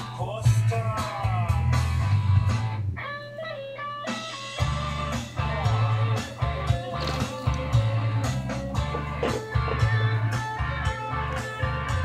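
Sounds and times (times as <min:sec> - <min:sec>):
bass and beat: 0:00.0 - 0:03.4, 0:04.0 - 0:12.0
electric guitar: 0:01.0 - 0:12.0.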